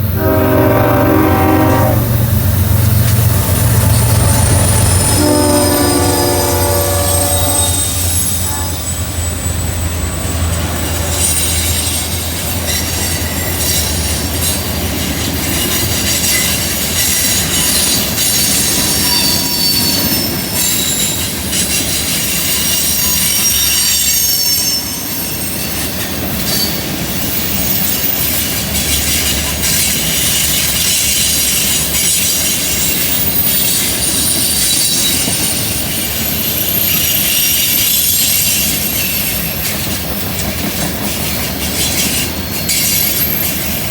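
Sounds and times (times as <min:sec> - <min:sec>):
rumble of passing train cars: 0:00.0 - 0:43.9
train wheels squealing on rails: 0:00.0 - 0:43.9.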